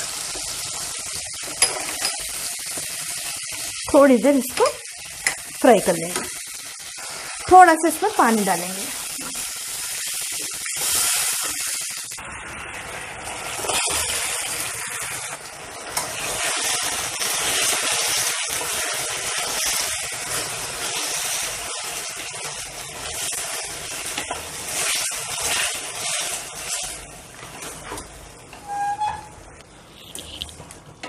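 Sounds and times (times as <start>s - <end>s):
sauce sizzling in a pan: 0.0s - 28.5s.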